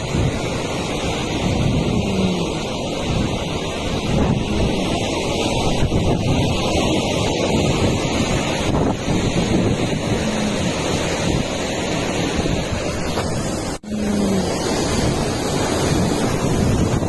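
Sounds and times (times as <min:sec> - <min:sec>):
heavy rain: 0:00.0 - 0:17.0
strong wind buffeting microphone: 0:00.0 - 0:17.0.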